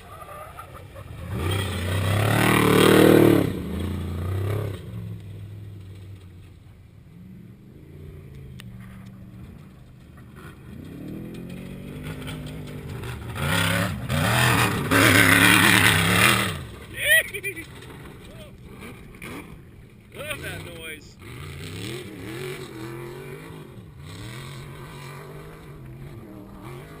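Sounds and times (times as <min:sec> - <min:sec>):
race vehicle engines passing: 0:00.0 - 0:27.0.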